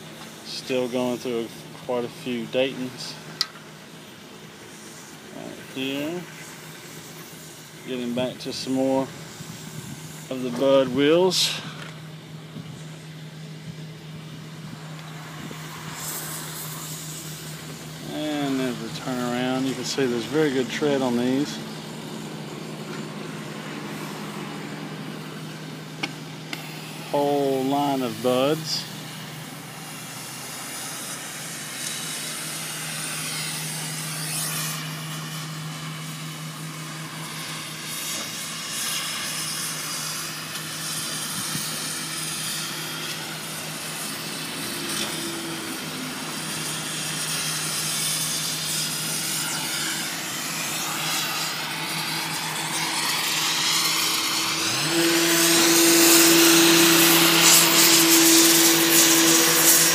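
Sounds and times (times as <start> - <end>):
hiss: 0.0 - 59.9
motor humming: 3.0 - 59.9.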